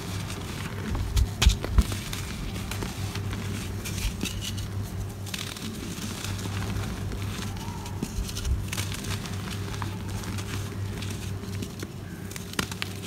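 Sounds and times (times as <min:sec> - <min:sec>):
sandy material crunching by hand: 0:00.0 - 0:13.0
steady low hum: 0:00.0 - 0:13.0.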